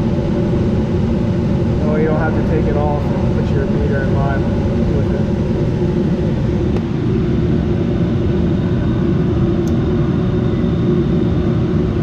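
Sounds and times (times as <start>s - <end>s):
furnace blower running: 0.0s - 12.0s.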